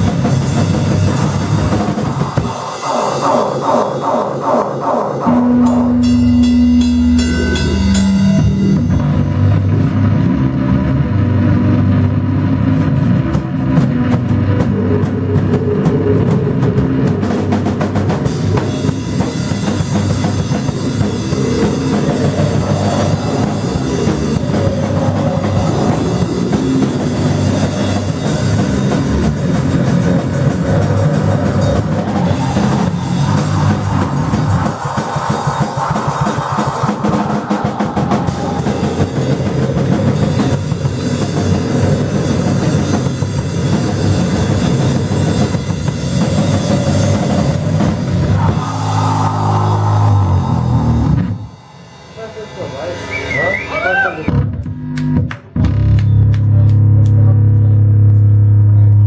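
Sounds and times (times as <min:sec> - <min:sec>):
cymbals: 0:00.0 - 0:10.4, 0:15.0 - 0:54.2
pounding bass drum: 0:00.0 - 0:52.0.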